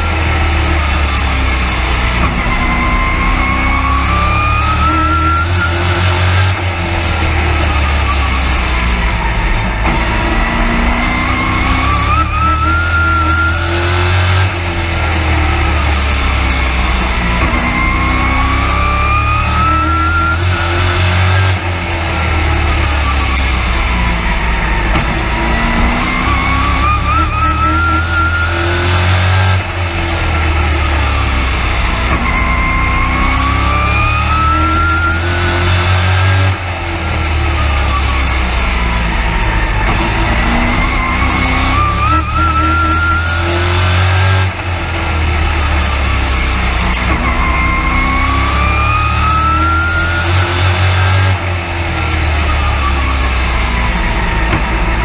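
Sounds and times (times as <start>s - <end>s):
race truck engine revving: 0.0s - 55.0s.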